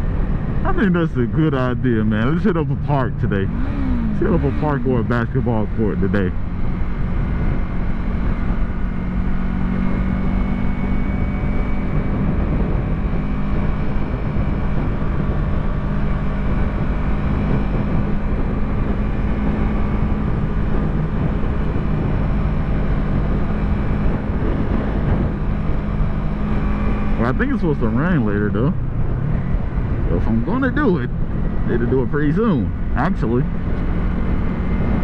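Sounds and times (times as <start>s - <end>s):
motorcycle engine running steadily: 0.0s - 35.0s
wind rushing over microphone: 0.0s - 35.0s.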